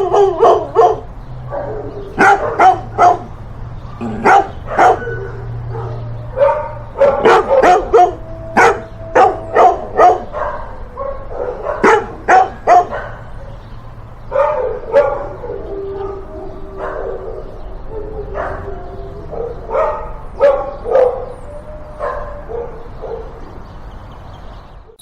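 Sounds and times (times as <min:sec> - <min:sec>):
dog barking: 0:00.0 - 0:03.4, 0:04.0 - 0:13.6, 0:14.3 - 0:17.6, 0:18.3 - 0:21.4, 0:22.0 - 0:23.5.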